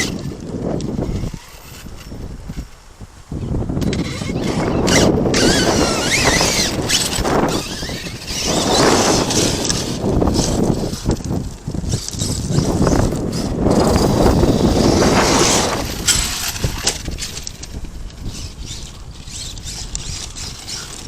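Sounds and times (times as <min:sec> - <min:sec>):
electric motor whining: 0:00.0 - 0:21.0
wheels rushing over ground: 0:00.0 - 0:21.0.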